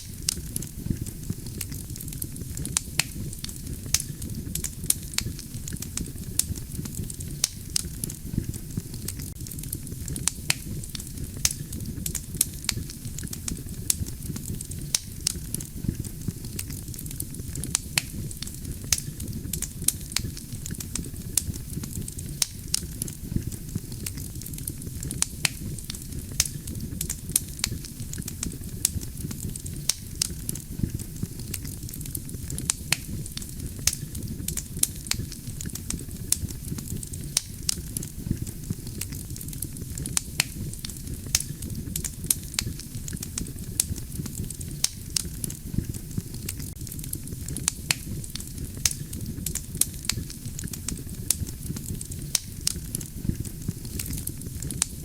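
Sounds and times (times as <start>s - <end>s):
crackles and pops of logs: 0.0s - 55.0s
low rumble of flames: 0.0s - 55.0s.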